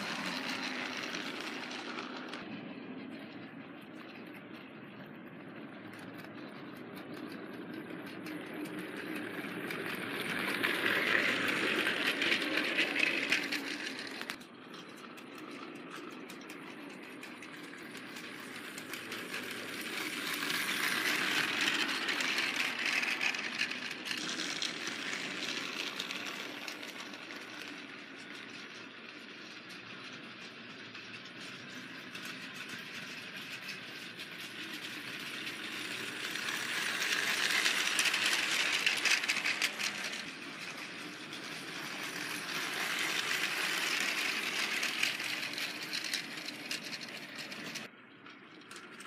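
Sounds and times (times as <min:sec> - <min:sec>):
toy train motor whirring: 0:00.0 - 0:49.0
toy train wheels rattling: 0:00.0 - 0:49.0.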